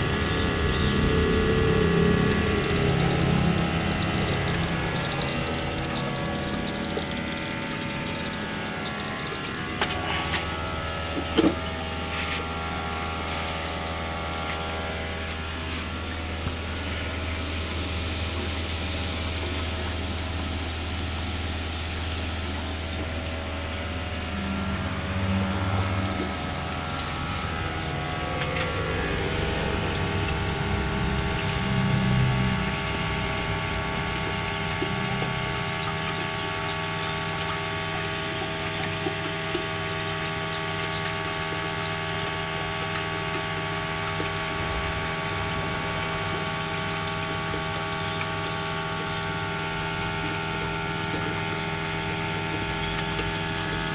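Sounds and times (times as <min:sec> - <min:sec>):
motor humming: 0:00.0 - 0:53.9.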